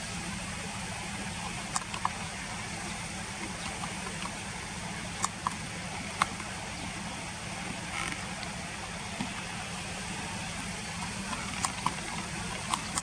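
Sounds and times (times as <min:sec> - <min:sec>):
low hum: 0:00.0 - 0:13.0
river flowing: 0:00.0 - 0:13.0.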